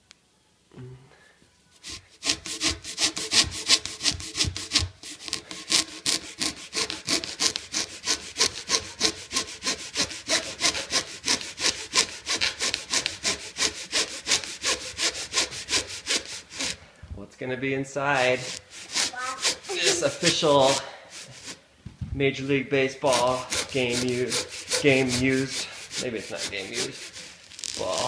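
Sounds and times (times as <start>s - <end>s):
blade sawing through baseball: 1.8s - 16.8s, 18.1s - 21.6s, 23.0s - 28.0s.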